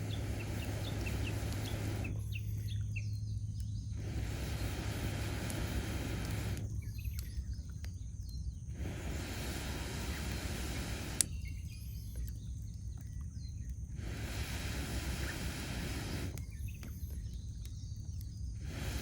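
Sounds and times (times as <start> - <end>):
campfire low rumble: 0.0 - 19.0
faint fire crackles: 0.0 - 19.0.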